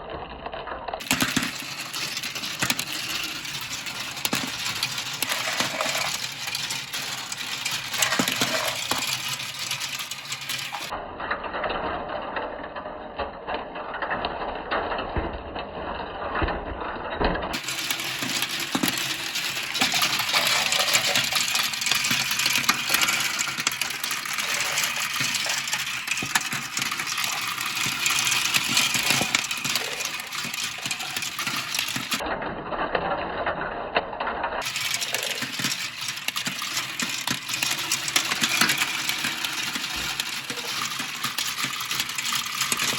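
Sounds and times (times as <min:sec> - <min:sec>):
marbles rattling down a track: 0:00.3 - 0:11.0, 0:17.5 - 0:33.6, 0:34.6 - 0:42.9.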